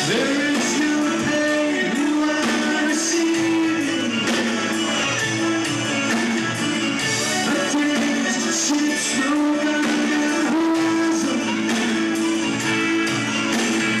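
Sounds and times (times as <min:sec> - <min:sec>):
electric guitar: 0:00.0 - 0:14.0
person singing: 0:00.0 - 0:14.0
rock band playing live: 0:00.0 - 0:14.0.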